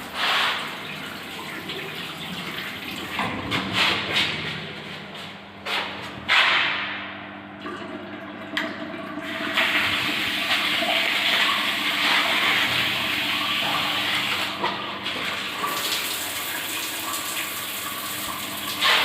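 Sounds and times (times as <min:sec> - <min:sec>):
water gushing through plumbing: 0:00.0 - 0:04.9, 0:06.3 - 0:19.0.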